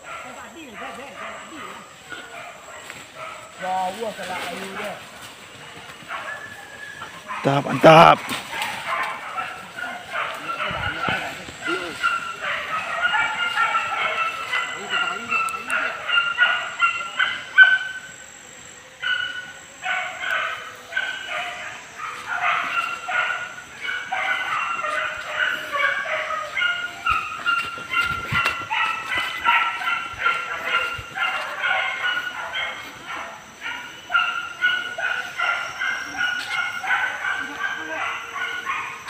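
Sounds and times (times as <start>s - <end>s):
dogs barking and yelping: 0.0s - 39.0s.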